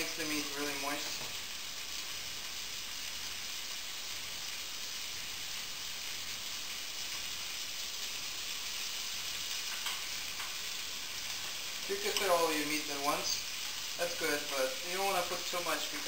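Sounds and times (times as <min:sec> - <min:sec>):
steaks sizzling in a frying pan: 0:00.0 - 0:16.0.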